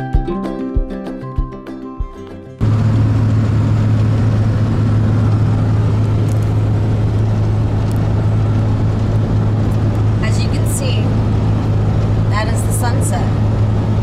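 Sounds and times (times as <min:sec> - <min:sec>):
truck engine drone: 0:02.6 - 0:14.0.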